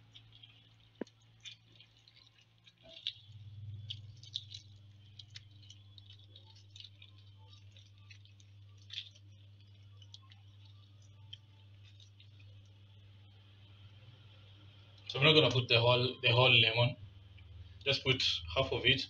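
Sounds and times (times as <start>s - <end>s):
lemon juice dripping: 0.0s - 15.6s
steady low hum: 0.0s - 19.0s.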